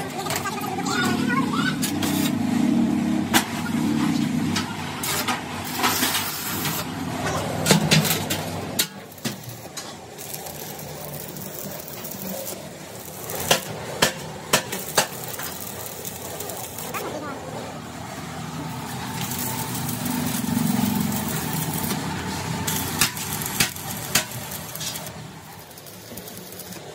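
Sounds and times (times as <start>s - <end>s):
machine humming: 0.5s - 26.9s.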